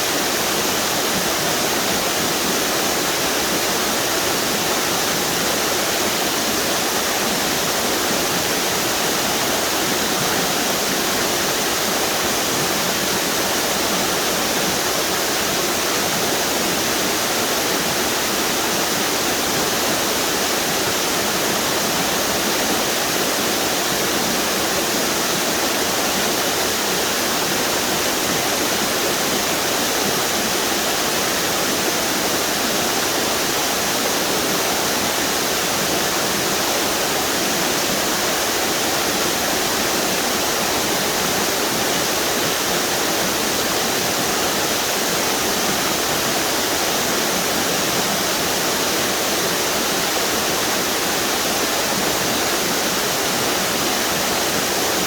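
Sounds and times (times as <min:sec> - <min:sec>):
water rushing over waterfalls: 0:00.0 - 0:55.0.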